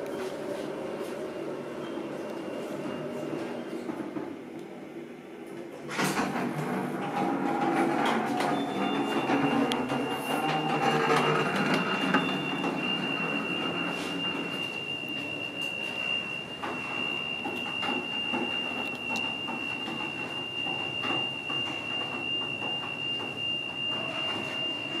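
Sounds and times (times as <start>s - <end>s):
low station rumble: 0.0s - 25.0s.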